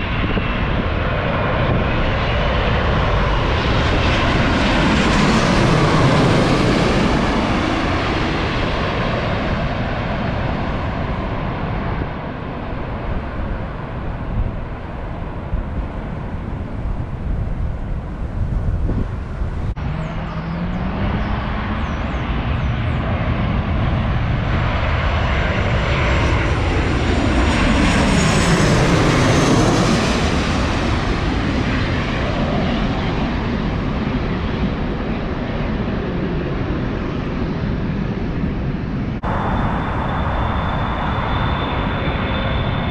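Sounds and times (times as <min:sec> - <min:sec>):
airliner passing overhead: 0:00.0 - 0:42.9
wind rumble on microphone: 0:00.0 - 0:42.9.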